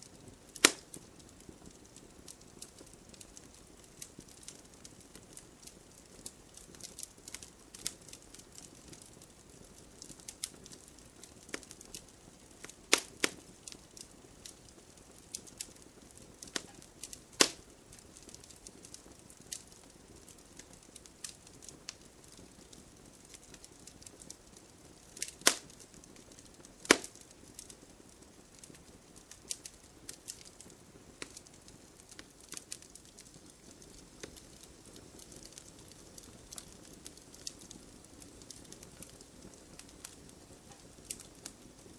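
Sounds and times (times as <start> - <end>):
burning wood popping: 0.0 - 41.9
wood fire crackling: 0.0 - 41.9.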